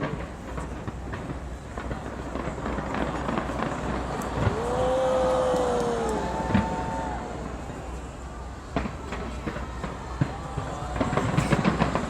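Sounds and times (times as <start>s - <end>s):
crowd voices on street: 0.0s - 12.0s.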